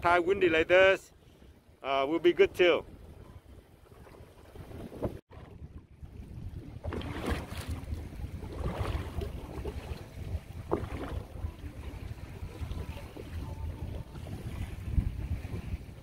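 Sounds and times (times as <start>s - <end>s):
waves splashing: 0.0s - 16.0s
wind on the microphone: 0.0s - 16.0s.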